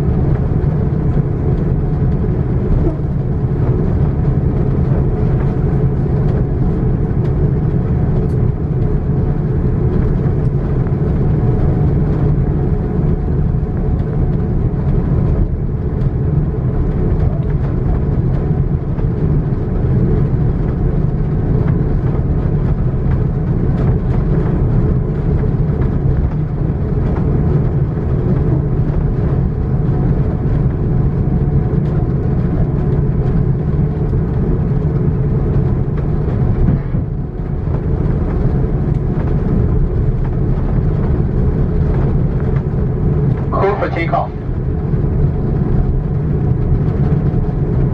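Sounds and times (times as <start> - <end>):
airplane cabin low rumble: 0.0 - 47.9
faint cabin rattles and ticks: 0.1 - 47.9.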